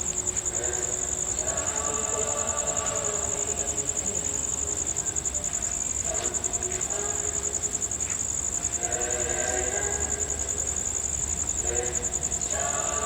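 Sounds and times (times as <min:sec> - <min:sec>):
crickets trilling: 0:00.0 - 0:13.0
faint distant voices: 0:00.0 - 0:13.0.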